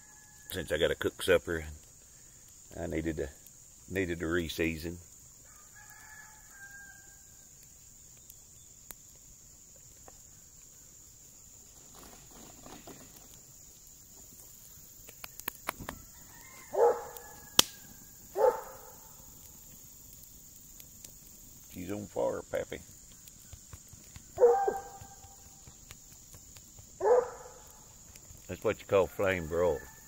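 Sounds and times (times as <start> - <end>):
crickets chirring: 0.0 - 30.0
wood fire crackling: 0.0 - 30.0.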